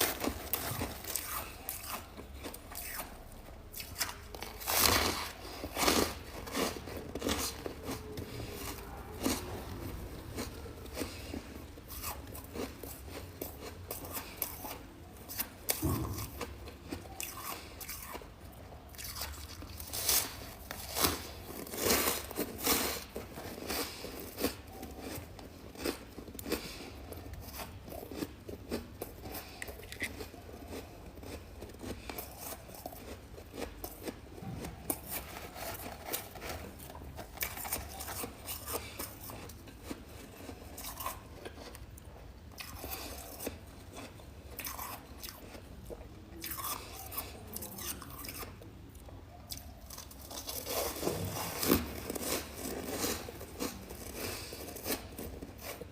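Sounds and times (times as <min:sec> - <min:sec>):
frost chunks crunched by chewing: 0:00.0 - 0:55.9.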